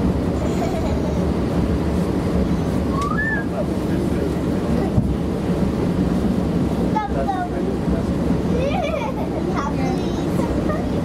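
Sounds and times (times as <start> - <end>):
train rumbling over track: 0.0 - 11.0.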